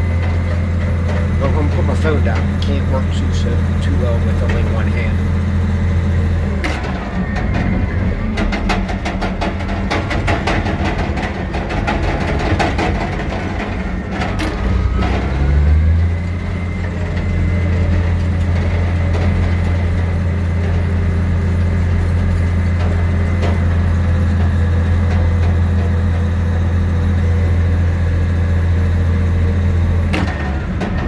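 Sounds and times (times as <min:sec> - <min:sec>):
bulldozer diesel engine revving: 0:00.0 - 0:31.0.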